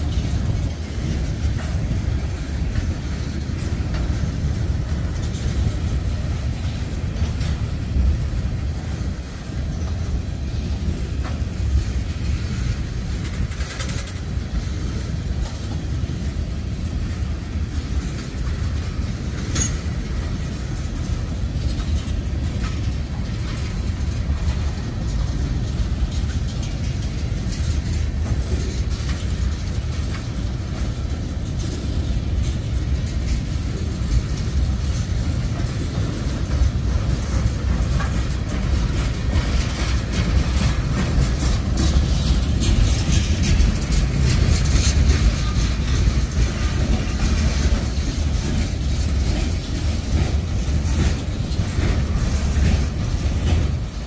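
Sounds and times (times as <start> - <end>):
train clicks and clanks: 0.0 - 54.0
train wheels rumbling on rail: 0.0 - 54.0.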